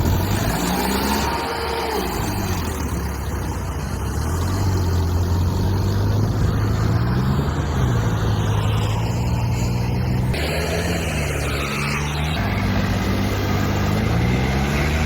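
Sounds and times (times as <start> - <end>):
heavy diesel engine under load: 0.0 - 15.0.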